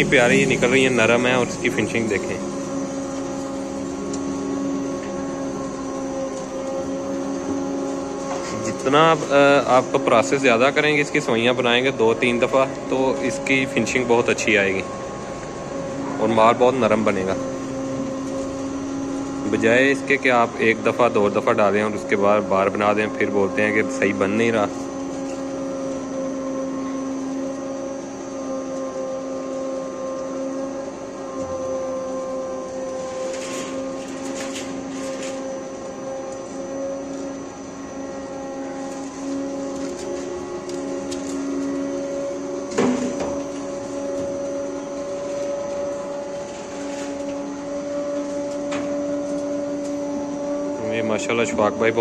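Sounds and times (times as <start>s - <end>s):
electric motor humming: 0.0s - 52.0s.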